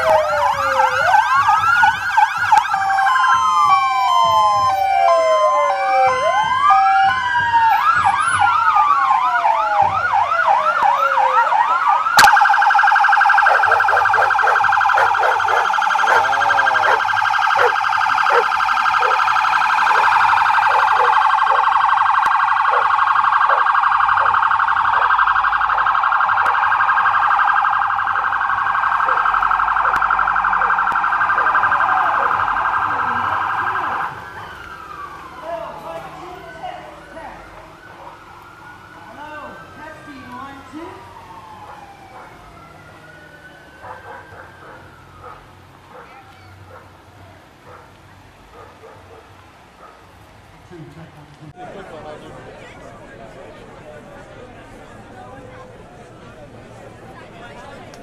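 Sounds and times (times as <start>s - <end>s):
police car sirens wailing: 0.0s - 50.6s, 51.2s - 58.0s.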